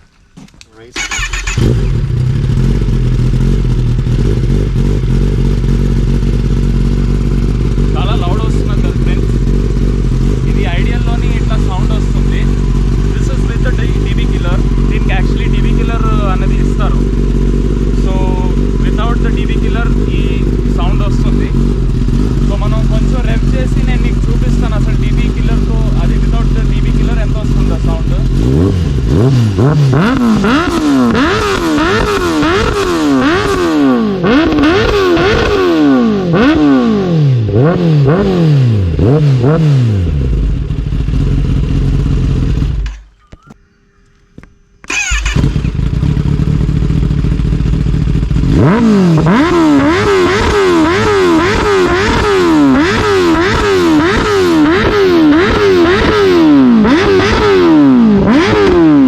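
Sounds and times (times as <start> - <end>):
motorcycle engine revving: 1.0 - 43.6, 44.3 - 59.0.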